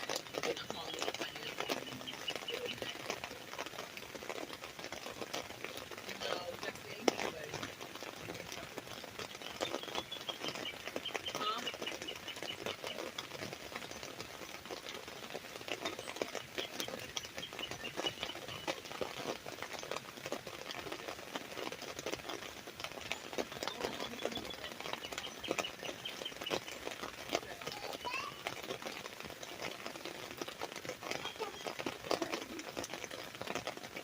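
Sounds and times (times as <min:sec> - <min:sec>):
birds chirping: 0:00.0 - 0:34.0
rain pattering on umbrella: 0:00.0 - 0:34.0.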